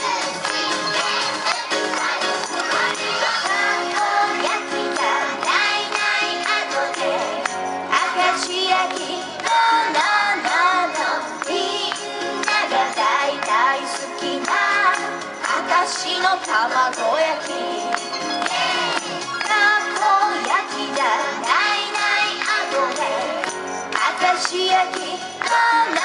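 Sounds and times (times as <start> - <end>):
jingling percussion: 0.0 - 26.0
woman singing pop song: 2.4 - 18.0, 19.4 - 26.0.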